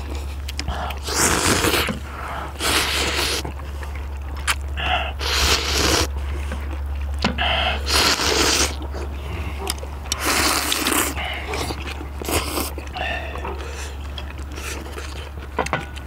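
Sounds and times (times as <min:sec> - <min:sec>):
people slurping noodles: 0:00.0 - 0:15.4
steady low hum: 0:00.0 - 0:16.0.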